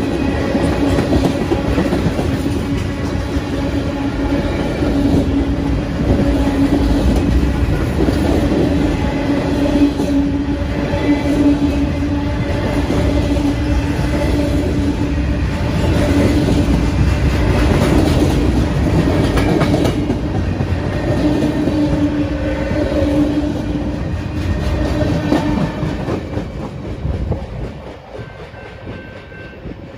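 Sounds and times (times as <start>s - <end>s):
freight train wheels rumbling: 0.0s - 29.9s.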